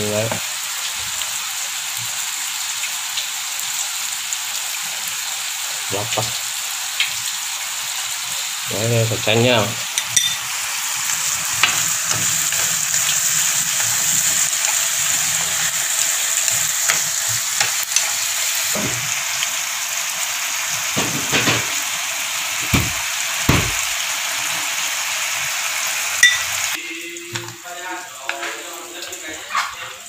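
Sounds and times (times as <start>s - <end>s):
food sizzling in frying pan: 0.0s - 30.0s.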